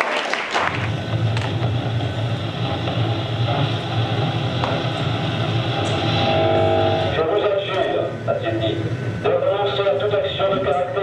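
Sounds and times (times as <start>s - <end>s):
low mechanical hum: 0.6s - 11.0s.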